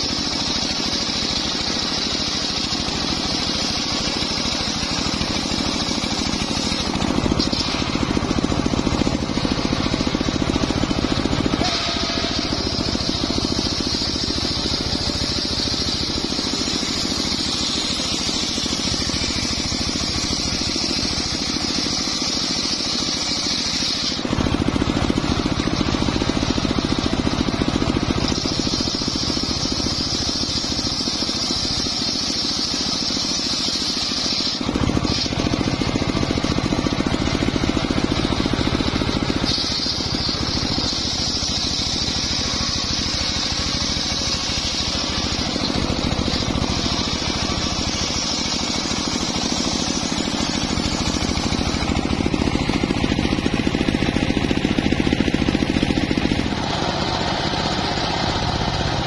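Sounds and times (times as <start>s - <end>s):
circular saw blade cutting wood: 0.0s - 59.0s.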